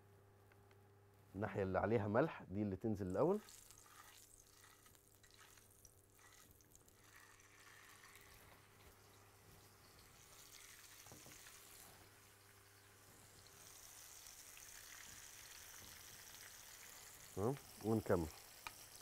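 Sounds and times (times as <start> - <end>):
fish sizzling in hot oil: 3.4 - 19.0.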